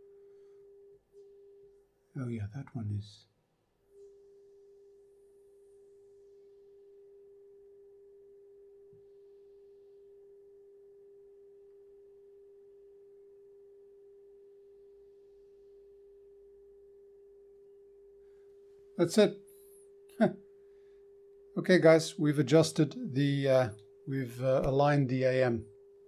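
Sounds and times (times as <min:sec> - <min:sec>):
faint sine test tone: 0:00.0 - 0:26.0.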